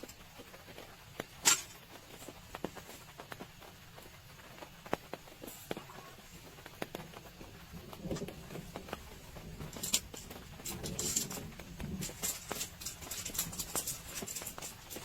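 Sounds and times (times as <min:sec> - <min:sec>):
raindrops tapping on tarp: 0:00.0 - 0:15.0
rustling: 0:00.0 - 0:15.0.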